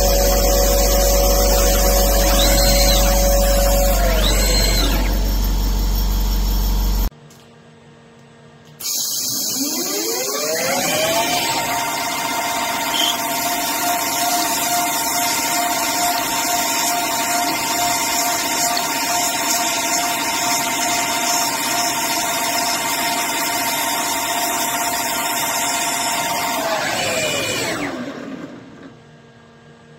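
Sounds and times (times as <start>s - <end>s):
lathe spindle whine: 0.0s - 7.1s, 8.8s - 29.0s.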